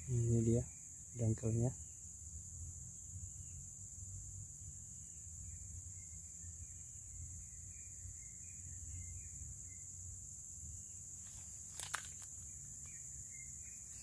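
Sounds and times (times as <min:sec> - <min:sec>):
faint chirps: 0:00.0 - 0:14.0
high drone of insects: 0:00.0 - 0:14.0.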